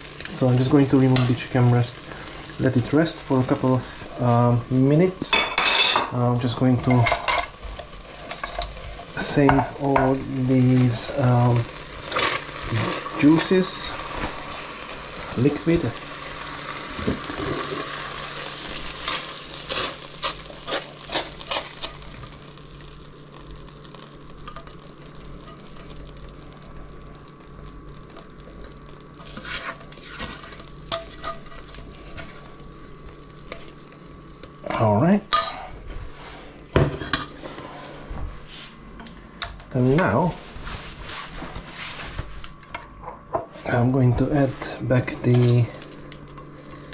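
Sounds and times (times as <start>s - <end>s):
juices sizzling in frying pan: 0.0s - 38.0s, 43.6s - 46.9s.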